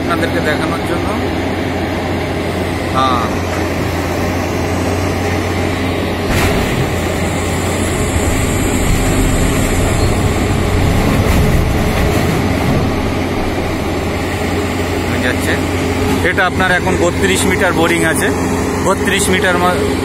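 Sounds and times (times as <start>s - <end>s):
diesel engine and hydraulic drive: 0.0s - 20.0s.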